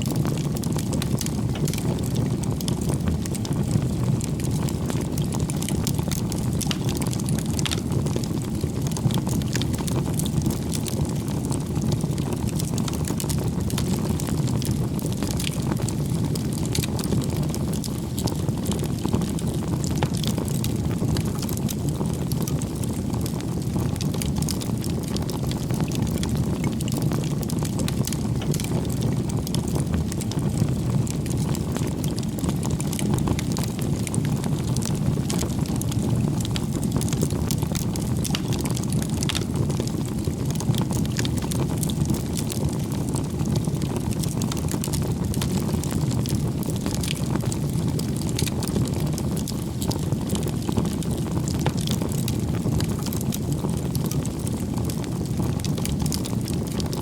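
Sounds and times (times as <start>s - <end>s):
campfire roaring: 0.0s - 57.0s
firewood crackling and popping: 0.0s - 57.0s.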